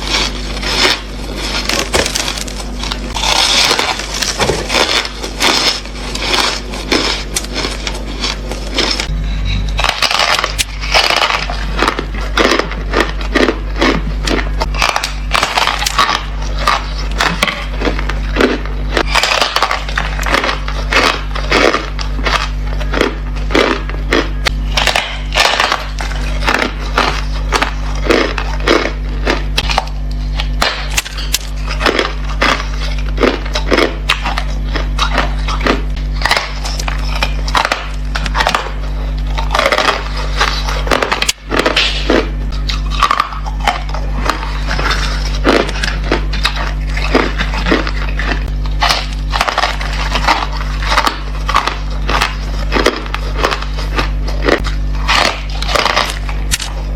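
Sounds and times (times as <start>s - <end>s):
ice crunching while chewed: 0.0s - 56.9s
low steady hum: 0.0s - 56.9s.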